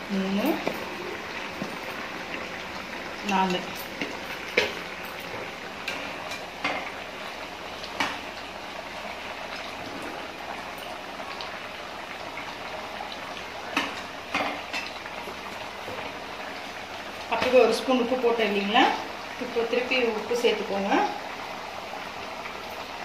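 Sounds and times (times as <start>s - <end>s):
liquid bubbling in pot: 0.0s - 23.0s.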